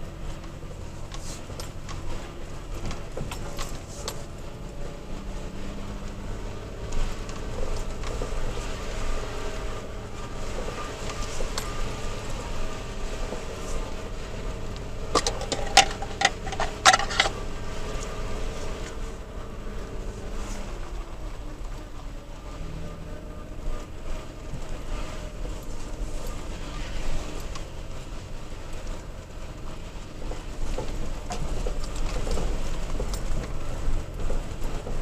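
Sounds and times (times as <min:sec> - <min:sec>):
cab and gear rattling: 0:00.0 - 0:35.0
low engine and road drone: 0:00.0 - 0:35.0.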